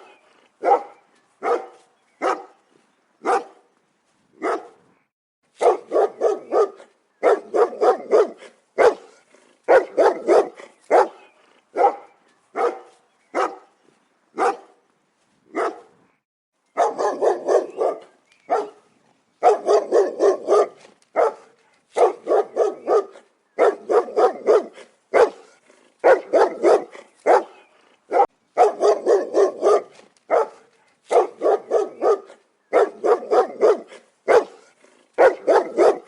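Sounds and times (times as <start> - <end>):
dog barking: 0.0 - 2.6, 3.2 - 3.6, 4.4 - 4.8, 5.6 - 13.7, 14.4 - 14.8, 15.5 - 15.9, 16.8 - 36.0.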